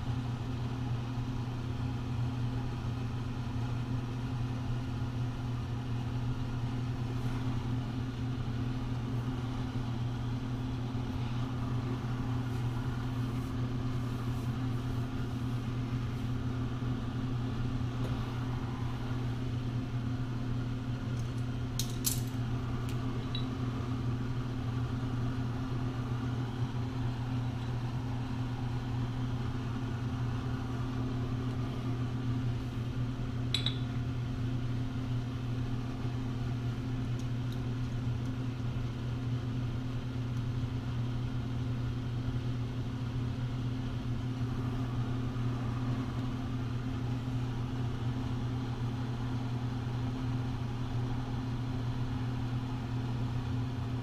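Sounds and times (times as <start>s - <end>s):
low machinery hum: 0.0s - 54.0s.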